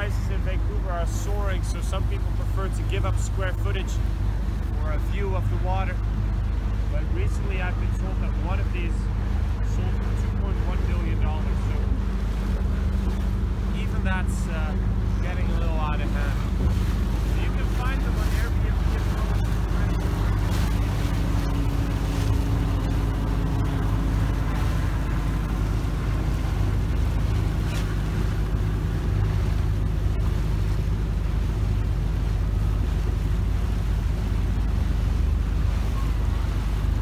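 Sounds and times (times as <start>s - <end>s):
boat motor humming: 0.0s - 37.0s
water rushing: 0.0s - 37.0s
wind rumble: 5.6s - 37.0s.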